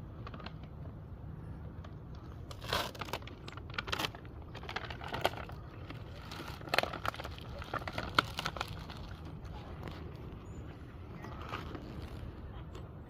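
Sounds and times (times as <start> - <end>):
crackles crunches and clicks: 0.0 - 13.0
steady low rumble: 0.0 - 13.0.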